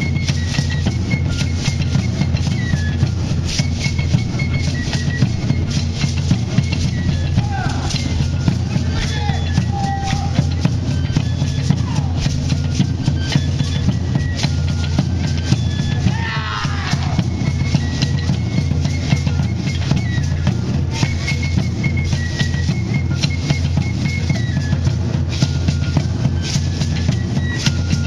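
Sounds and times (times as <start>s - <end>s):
drums beating: 0.0s - 28.0s.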